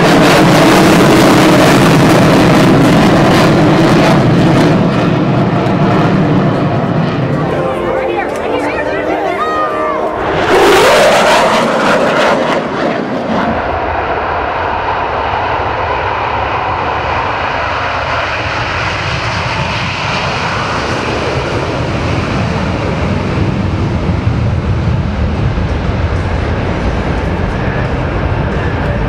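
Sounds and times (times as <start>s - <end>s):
jet passing overhead: 0.0s - 29.0s.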